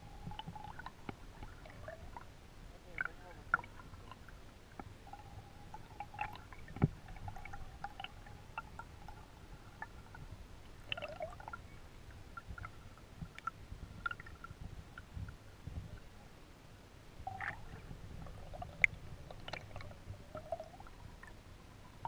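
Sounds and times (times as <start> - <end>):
underwater clicks and ticks: 0.0 - 16.1, 17.2 - 22.0
muffled underwater rumble: 0.0 - 16.4, 17.2 - 22.0
faint steady tone: 0.0 - 22.0.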